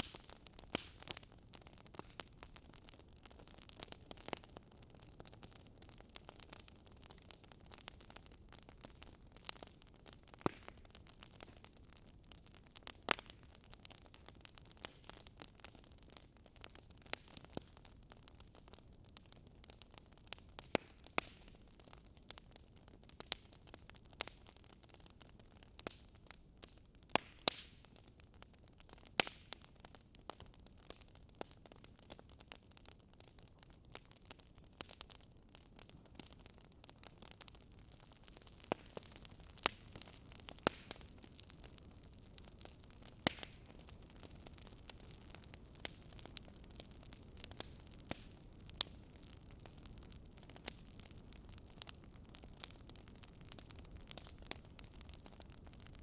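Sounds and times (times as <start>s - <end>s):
fire crackling and popping: 0.0s - 56.0s
soft steady hiss: 0.0s - 56.0s.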